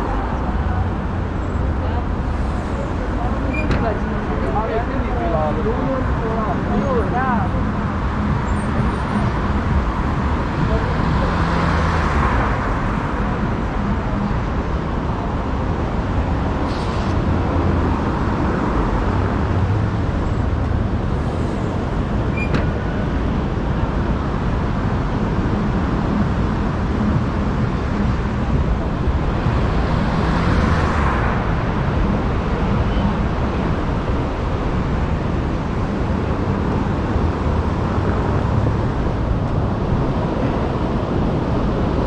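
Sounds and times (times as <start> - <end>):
cars driving past: 0.0 - 42.0
traffic hum: 0.0 - 42.0.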